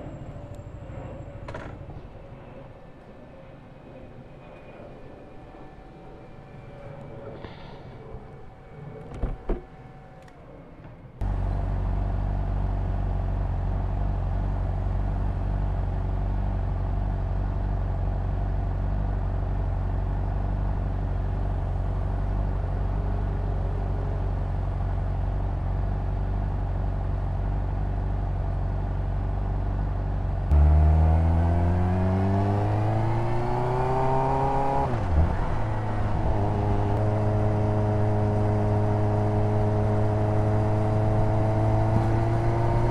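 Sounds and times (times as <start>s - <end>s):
motorcycle engine idling and revving: 0.0s - 3.1s, 10.3s - 42.9s.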